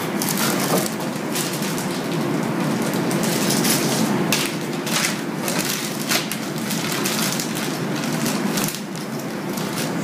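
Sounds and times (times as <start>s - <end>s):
plastic bag crinkling: 0.2s - 10.0s.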